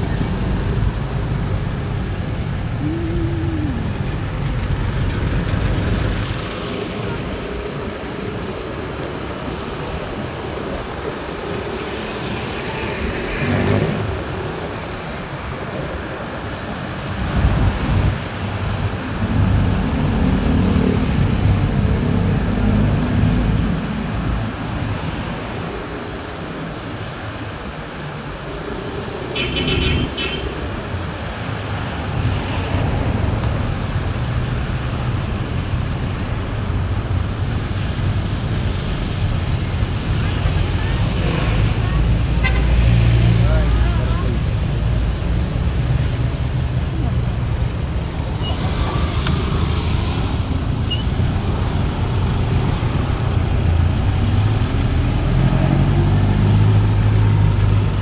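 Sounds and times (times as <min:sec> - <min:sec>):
car engines running: 0:00.0 - 0:29.2, 0:30.7 - 0:58.0
cars passing: 0:00.0 - 0:58.0.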